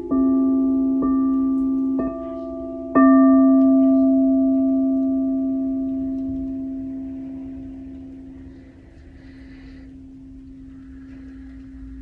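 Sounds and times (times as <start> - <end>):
singing bowl ringing: 0.0 - 10.6.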